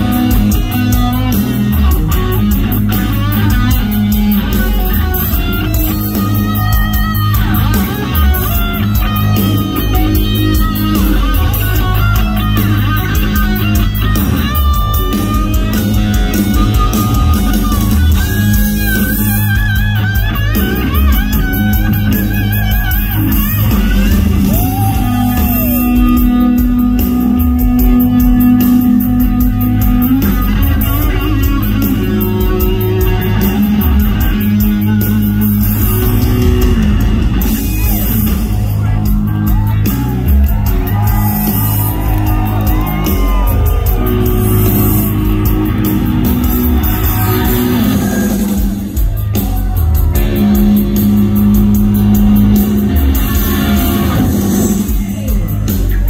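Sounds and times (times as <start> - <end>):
bass guitar: 0.0 - 56.0
drums: 0.0 - 56.0
electric guitar lead: 0.0 - 56.0.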